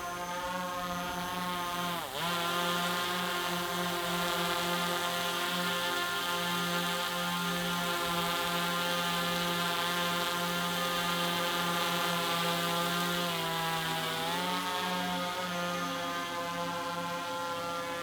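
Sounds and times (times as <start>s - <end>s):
drone buzzing: 0.0s - 18.0s.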